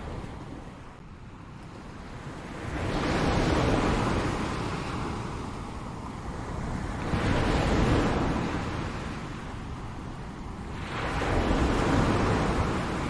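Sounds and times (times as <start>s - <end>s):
ocean waves crashing on shore: 0.0s - 13.0s.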